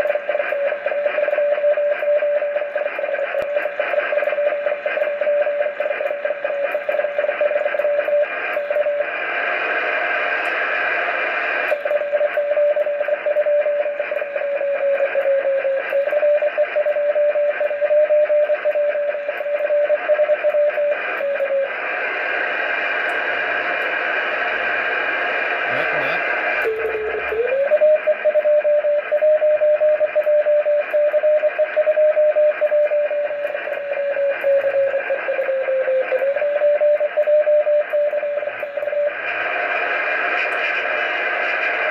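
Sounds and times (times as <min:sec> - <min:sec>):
radio receiver hiss: 0:00.0 - 0:41.9.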